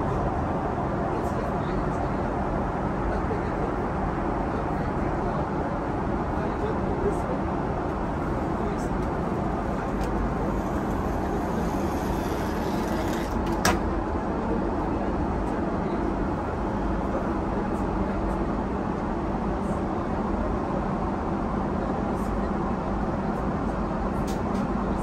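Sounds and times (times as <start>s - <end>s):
airplane cabin drone: 0.0s - 25.0s.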